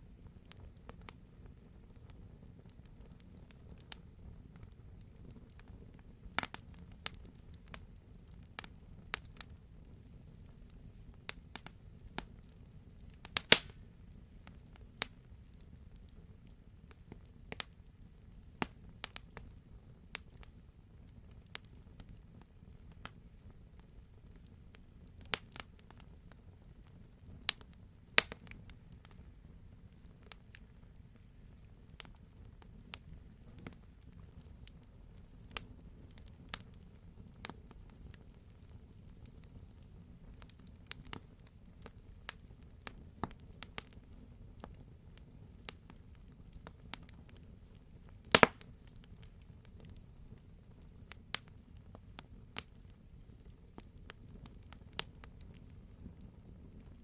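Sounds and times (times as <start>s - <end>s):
low rumble of burning fire: 0.0s - 57.0s
campfire pops and snaps: 2.0s - 19.5s, 20.1s - 57.0s.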